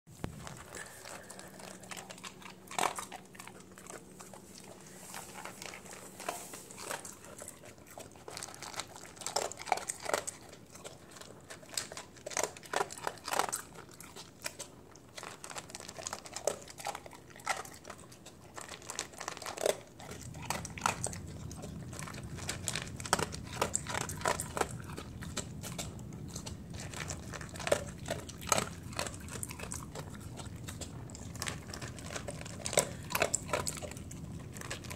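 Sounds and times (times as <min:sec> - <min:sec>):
dog crunching kibble: 0:00.1 - 0:34.9
low steady hum: 0:00.1 - 0:34.9.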